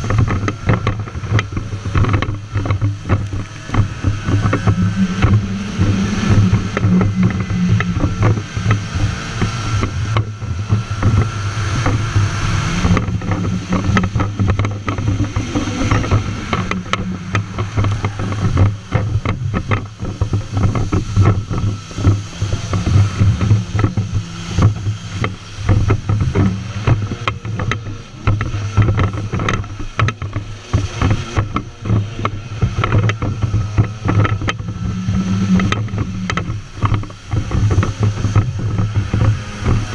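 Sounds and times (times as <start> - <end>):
jet ski engine droning: 0.0 - 39.9
water rushing and slapping hull: 0.0 - 39.9.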